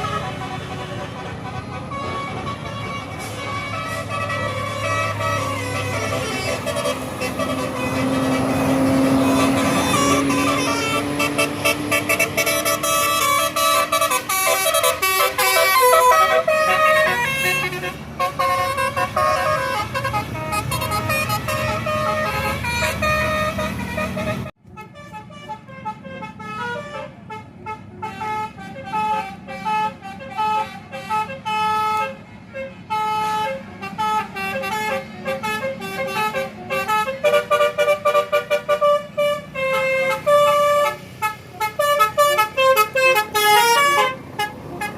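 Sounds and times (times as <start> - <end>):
tuned air horns tooting melody: 0.0 - 44.9
vehicle noise: 0.0 - 44.9.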